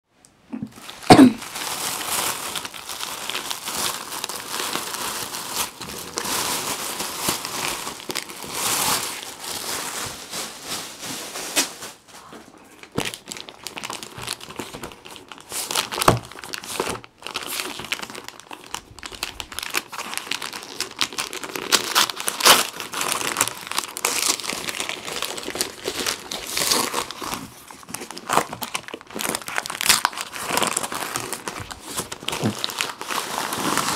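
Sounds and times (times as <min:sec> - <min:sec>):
plastic bag crinkling: 0:00.7 - 0:33.9
paper rustling and tearing: 0:00.8 - 0:33.9.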